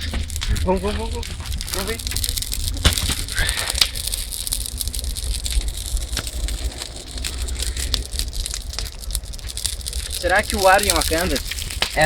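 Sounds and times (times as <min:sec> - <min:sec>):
campfire crackling and popping: 0:00.0 - 0:12.0
wind on microphone: 0:00.0 - 0:12.0.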